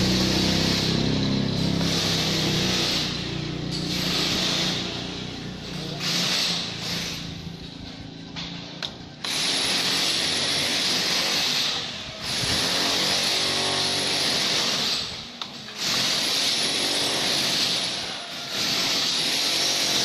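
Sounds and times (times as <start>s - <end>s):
power tool harsh hiss: 0.0s - 7.5s, 9.2s - 20.0s.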